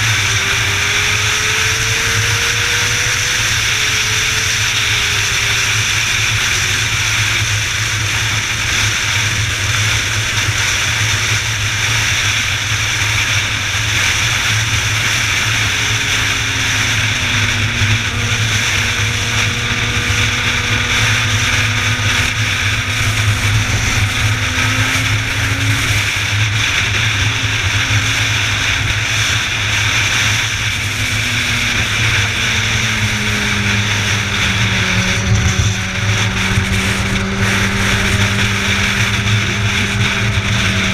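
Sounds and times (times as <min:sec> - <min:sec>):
heavy wind rush: 0:00.0 - 0:40.9
vehicle engine and road noise: 0:00.0 - 0:40.9.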